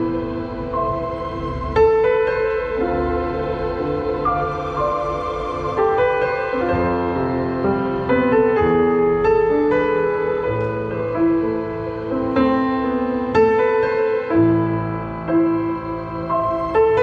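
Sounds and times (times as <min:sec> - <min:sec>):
digital piano slow melody: 0:00.0 - 0:17.0.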